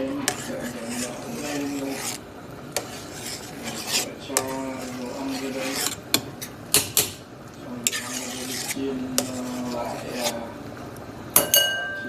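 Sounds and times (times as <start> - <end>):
ladle scraping against a pot: 0.0 - 10.6.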